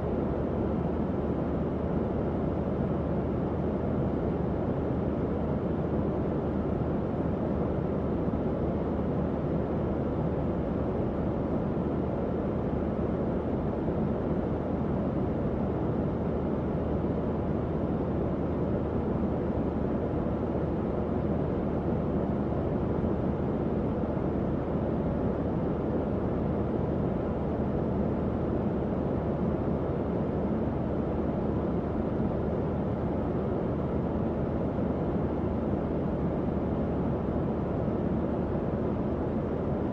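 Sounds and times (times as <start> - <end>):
tower fan whooshing hum: 0.0 - 39.9.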